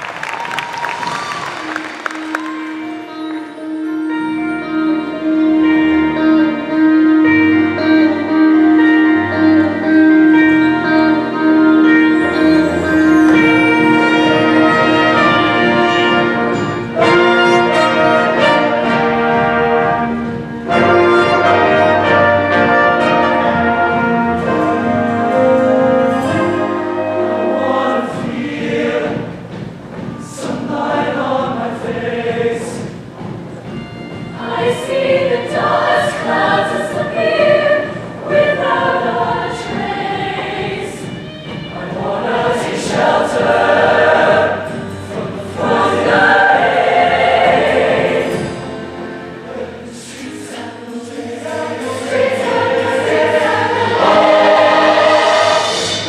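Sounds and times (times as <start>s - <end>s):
instrumental accompaniment: 0.0s - 56.0s
choir singing in harmony: 1.0s - 33.0s, 34.3s - 56.0s.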